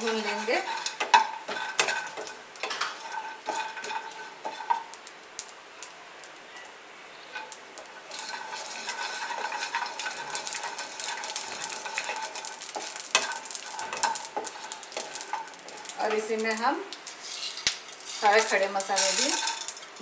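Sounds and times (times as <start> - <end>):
wooden spatula scraping pan: 0.0 - 4.9, 7.3 - 20.0
crackling sizzle: 0.0 - 20.0.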